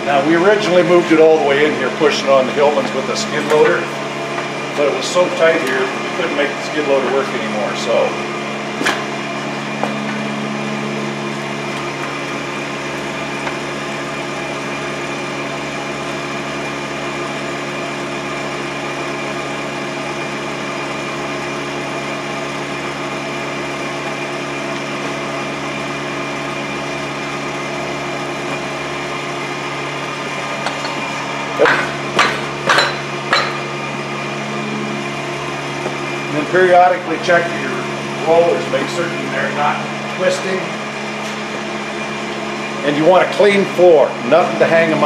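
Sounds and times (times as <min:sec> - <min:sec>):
machine droning: 0:00.0 - 0:45.0.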